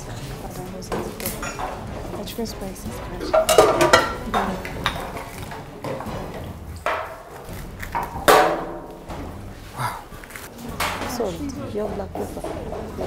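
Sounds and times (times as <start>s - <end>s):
utensils and cookware clinking: 0.0s - 13.0s.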